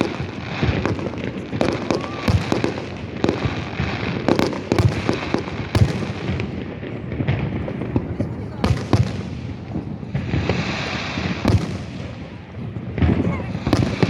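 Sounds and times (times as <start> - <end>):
fireworks bangs and booms: 0.0 - 14.0.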